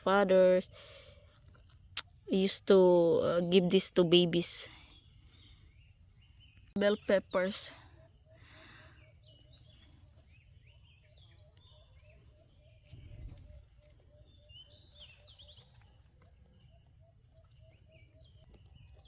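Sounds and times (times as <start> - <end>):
insects chorus: 0.0 - 19.0
falling bird calls: 3.1 - 19.0.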